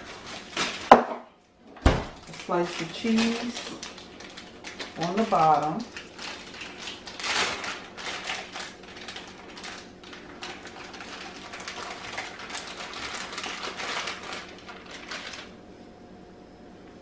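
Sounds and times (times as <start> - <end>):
plastic wrapper crinkling: 0.0 - 1.0, 2.2 - 15.6.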